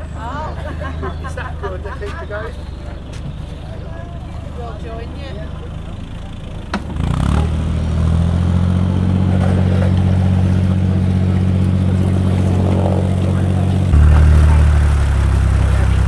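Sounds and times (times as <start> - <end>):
boat engine throbbing: 0.0 - 16.0.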